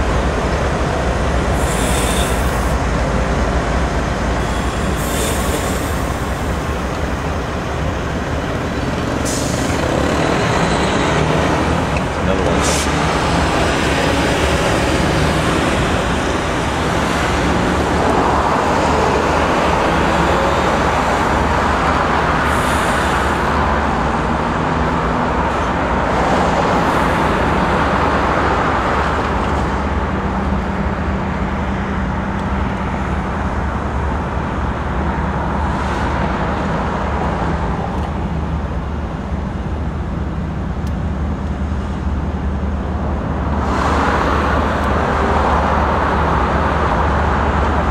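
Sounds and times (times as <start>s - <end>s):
locomotive engine drone: 0.0s - 47.9s
steel wheels rumbling on rails: 0.0s - 47.9s.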